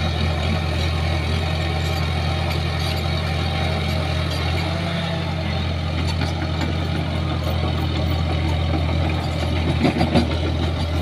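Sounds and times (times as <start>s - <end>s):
bulldozer diesel engine droning: 0.0s - 11.0s.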